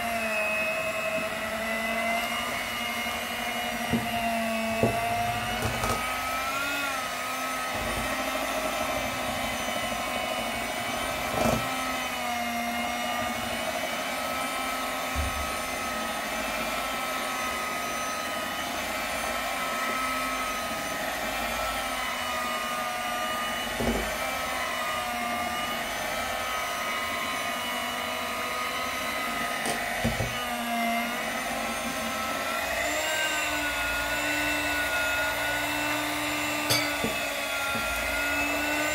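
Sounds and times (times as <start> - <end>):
electric hand mixer whisking: 0.0 - 38.9.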